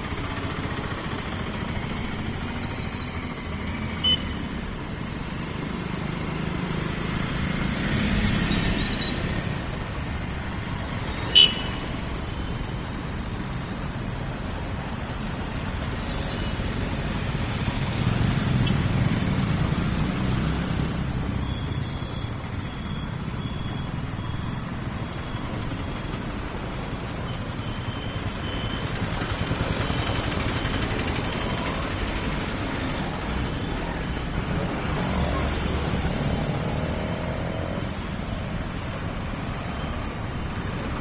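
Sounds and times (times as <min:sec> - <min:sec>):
traffic passing: 0:00.0 - 0:41.0.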